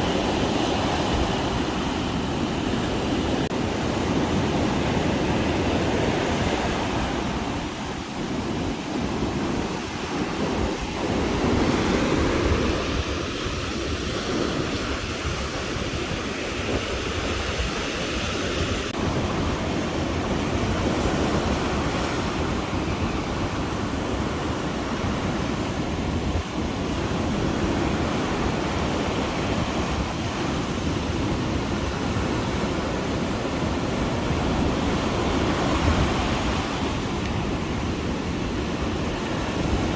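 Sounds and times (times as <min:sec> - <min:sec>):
waves washing onto beach: 0:00.0 - 0:39.9
wind rumbling on microphone: 0:00.0 - 0:39.9.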